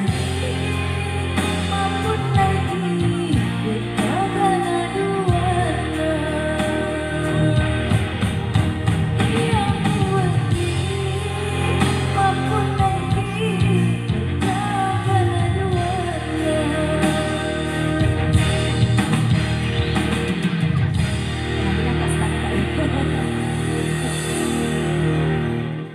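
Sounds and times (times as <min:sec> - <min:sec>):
song with vocals: 0:00.0 - 0:25.9.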